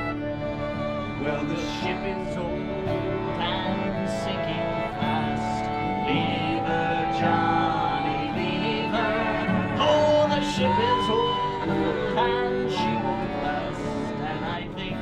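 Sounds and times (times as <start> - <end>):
accordion: 0.0 - 15.0
fiddle: 0.0 - 15.0
tin whistle: 0.0 - 15.0.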